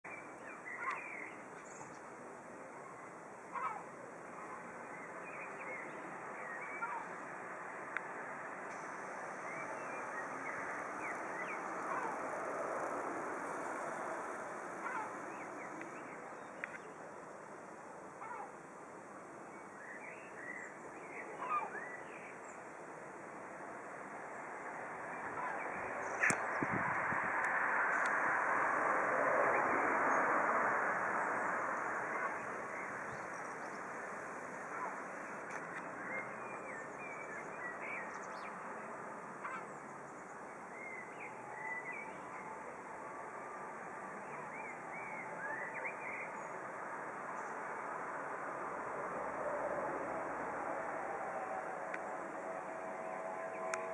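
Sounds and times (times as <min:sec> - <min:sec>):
steady rushing noise: 0:00.1 - 0:41.6, 0:42.2 - 0:53.9
steady background hiss: 0:00.1 - 0:53.9.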